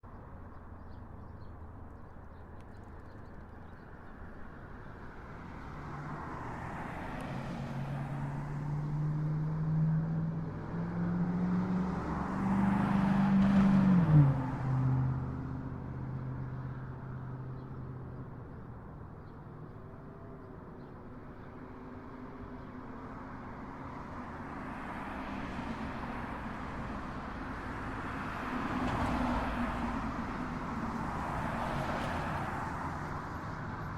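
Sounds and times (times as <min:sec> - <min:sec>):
street traffic rumble: 0:00.1 - 0:33.9
vehicles passing close: 0:05.0 - 0:33.9.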